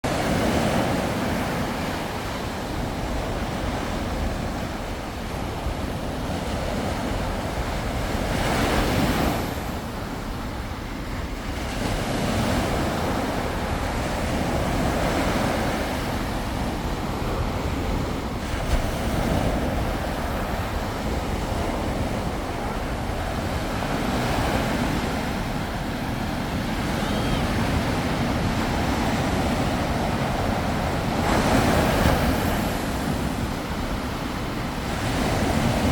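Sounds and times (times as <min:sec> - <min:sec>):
waves breaking on shore: 0:00.0 - 0:35.9
wind buffeting microphone: 0:00.1 - 0:35.9.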